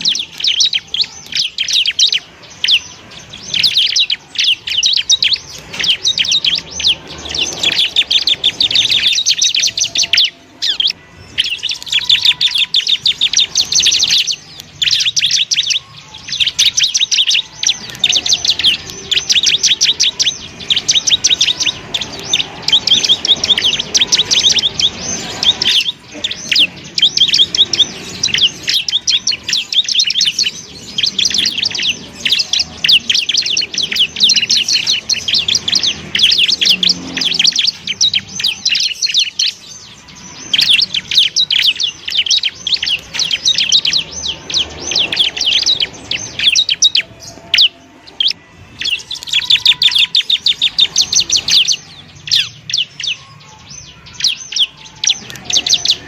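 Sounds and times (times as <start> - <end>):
bird singing rapid high chirps: 0.0 - 56.0.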